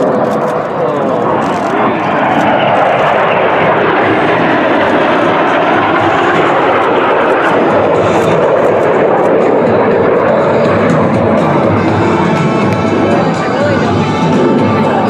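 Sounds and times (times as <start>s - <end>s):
jet planes flying past: 0.0s - 15.0s.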